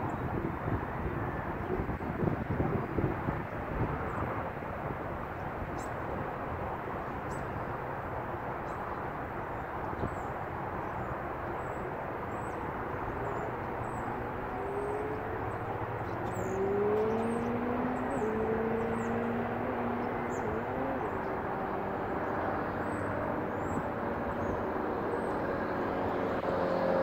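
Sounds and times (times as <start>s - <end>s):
distant engine: 0.0s - 27.0s
outdoor background rumble: 0.0s - 27.0s.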